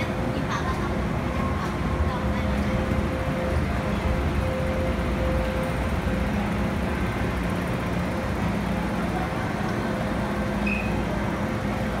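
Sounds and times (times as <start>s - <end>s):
metro train rumbling: 0.0s - 12.0s.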